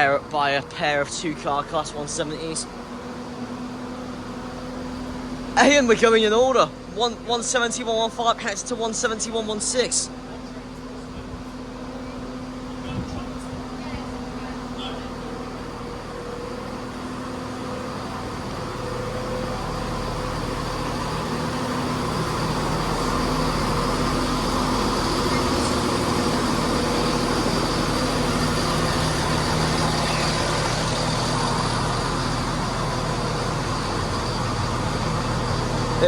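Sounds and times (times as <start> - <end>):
train diesel engines humming: 0.0 - 36.0.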